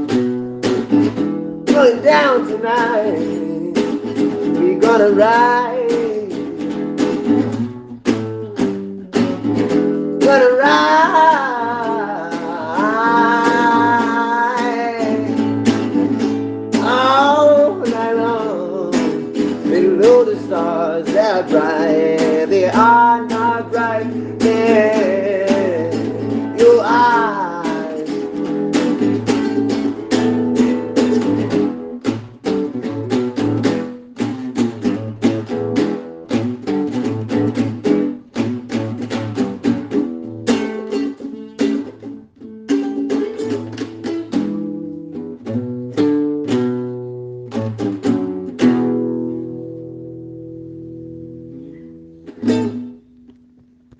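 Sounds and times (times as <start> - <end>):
acoustic string instrument strumming: 0.0 - 53.9.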